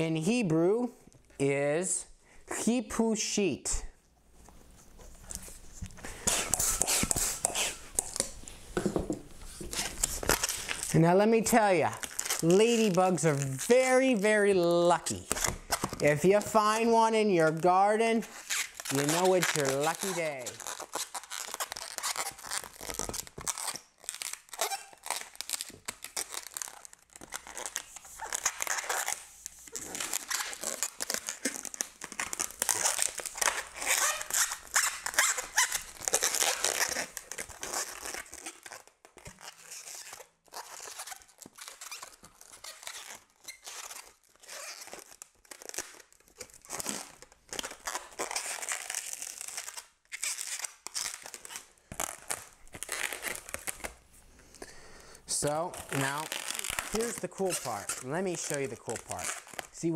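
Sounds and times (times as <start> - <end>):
balloons rubbing and squeaking: 4.3 - 59.9.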